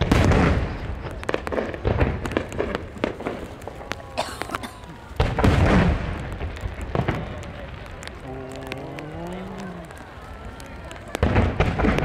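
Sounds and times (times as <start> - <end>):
crackling firework pops: 0.0 - 12.0.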